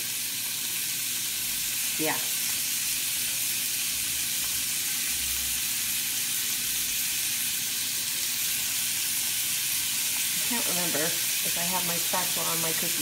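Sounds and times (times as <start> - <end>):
meat sizzling in a skillet: 0.0 - 13.0.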